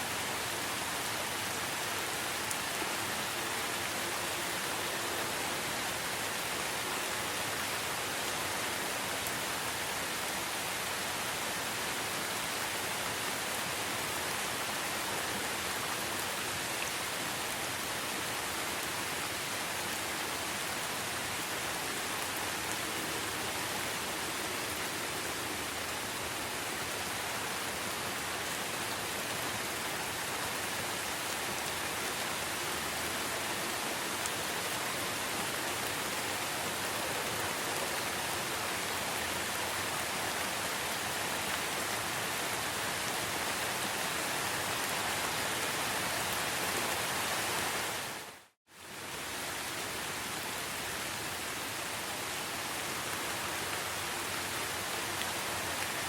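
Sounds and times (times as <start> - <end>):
rain falling in forest: 0.0 - 56.0.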